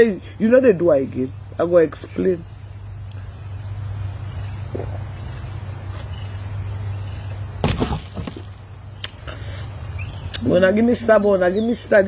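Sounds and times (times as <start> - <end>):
crickets chirping: 0.0 - 12.0
low constant hum: 0.0 - 12.0.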